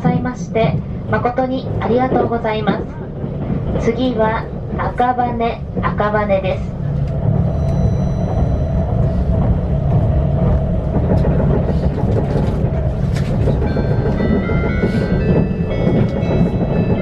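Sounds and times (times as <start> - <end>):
rail clicks: 0.0 - 17.0
train rumbling: 0.0 - 17.0.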